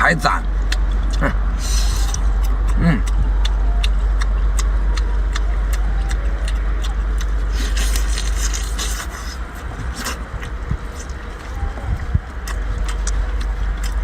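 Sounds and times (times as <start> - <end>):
low motor rumble: 0.0 - 14.0.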